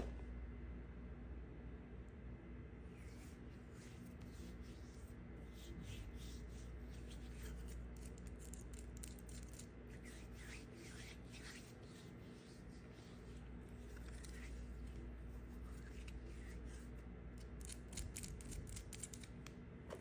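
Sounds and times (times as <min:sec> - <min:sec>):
knife shaving dry soap: 0:02.9 - 0:19.4.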